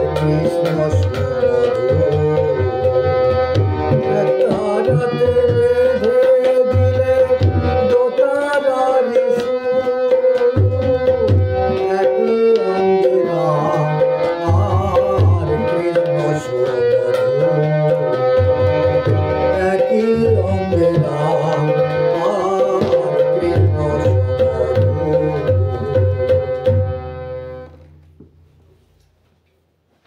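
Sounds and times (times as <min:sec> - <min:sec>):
man singing: 0:00.0 - 0:26.7
tabla playing: 0:00.0 - 0:28.4.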